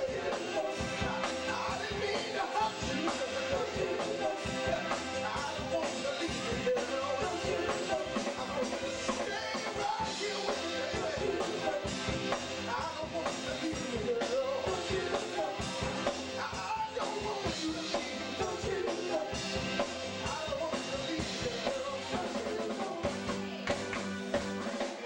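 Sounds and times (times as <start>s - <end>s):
man singing into microphone: 0.0s - 23.3s
drum kit: 0.0s - 25.0s
live band playing: 0.0s - 25.0s.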